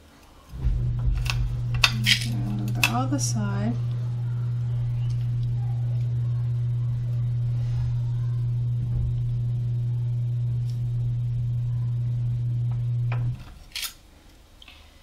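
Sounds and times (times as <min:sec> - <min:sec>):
loud low hum: 0:00.5 - 0:13.6.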